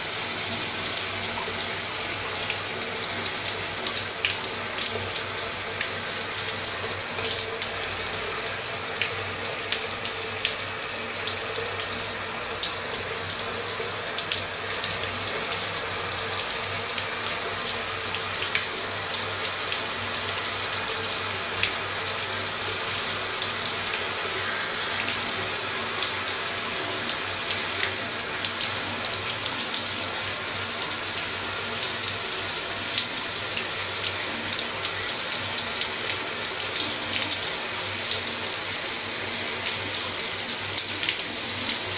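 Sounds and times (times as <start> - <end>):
shower water spraying: 0.0 - 41.9.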